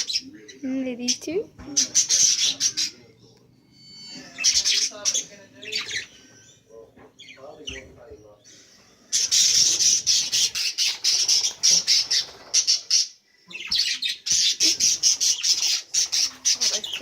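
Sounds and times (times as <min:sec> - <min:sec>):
budgerigars squawking and chattering: 0:00.0 - 0:03.2, 0:03.8 - 0:17.0.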